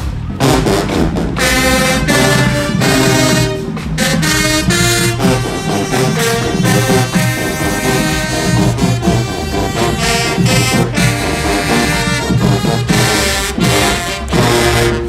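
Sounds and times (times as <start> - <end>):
steady drum beat: 0.0 - 15.0
trombones and trumpets: 0.0 - 15.0.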